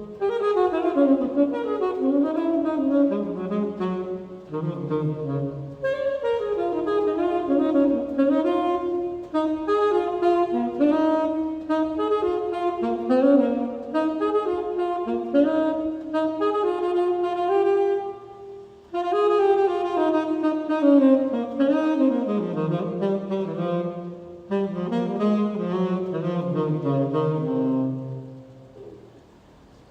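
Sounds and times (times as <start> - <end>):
tenor saxophone improvising: 0.0 - 29.2
electric fan humming: 0.0 - 29.9.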